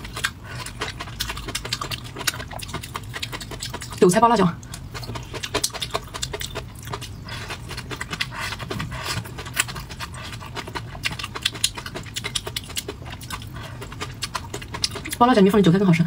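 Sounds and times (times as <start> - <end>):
wet chewing smacks: 0.0 - 4.0, 4.6 - 15.2.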